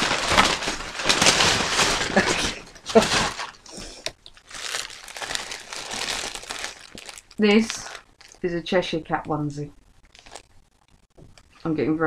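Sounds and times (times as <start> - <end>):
plastic and paper crinkling: 0.0 - 11.7.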